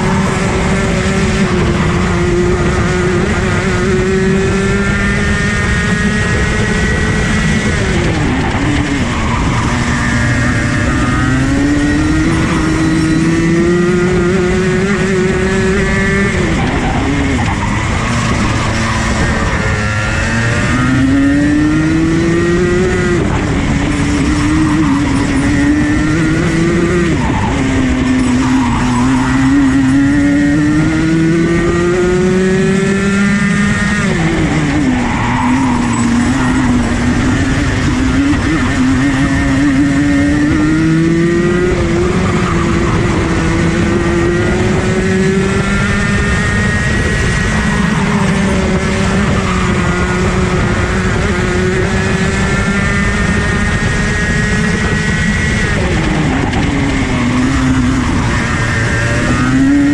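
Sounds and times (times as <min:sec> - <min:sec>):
kart engine at racing speed: 0:00.0 - 0:59.9
wind noise: 0:00.0 - 0:59.9.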